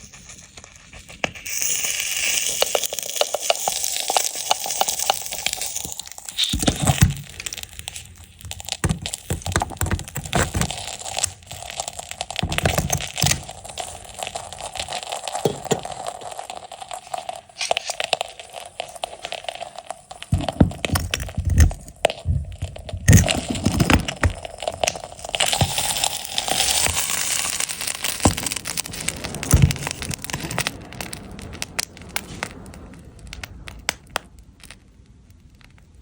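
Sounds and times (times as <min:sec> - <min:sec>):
glue crackling on hot iron: 0:00.0 - 0:36.0.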